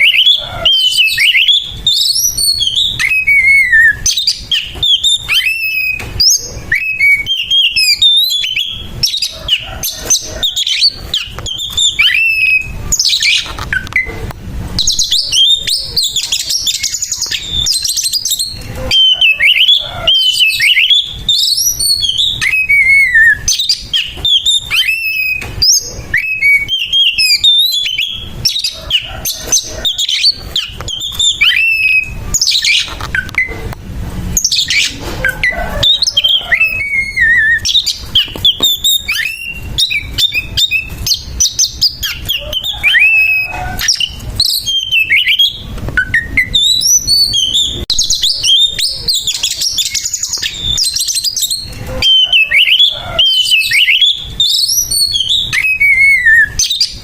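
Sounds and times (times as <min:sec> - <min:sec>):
bird singing whistled notes: 0:00.0 - 0:14.2, 0:14.8 - 0:33.6, 0:34.4 - 0:57.0.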